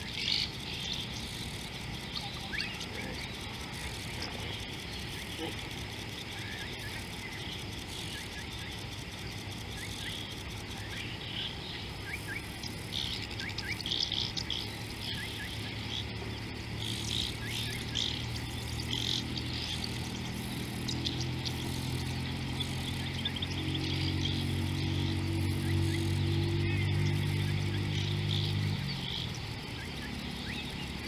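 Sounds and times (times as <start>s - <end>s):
birds chirping: 0.0s - 31.0s
insects buzzing: 0.0s - 31.0s
low steady hum: 0.0s - 31.0s.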